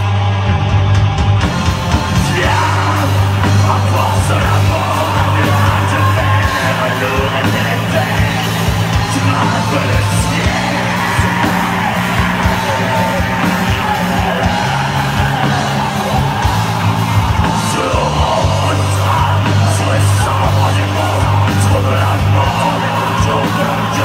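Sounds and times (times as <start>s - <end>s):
distorted guitars: 0.0s - 24.0s
drums: 0.0s - 24.0s
metal band playing live: 0.0s - 24.0s
screamed vocals: 2.0s - 24.0s.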